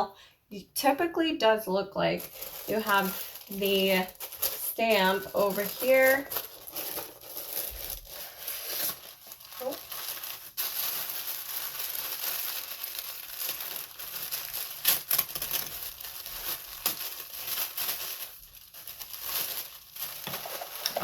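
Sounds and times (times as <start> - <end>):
paper packaging crinkling: 2.2 - 21.0.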